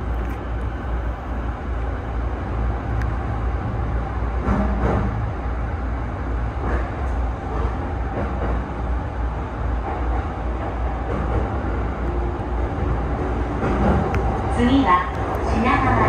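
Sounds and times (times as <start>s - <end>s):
train wheels rumbling: 0.0s - 16.0s
tunnel noise: 0.0s - 16.0s.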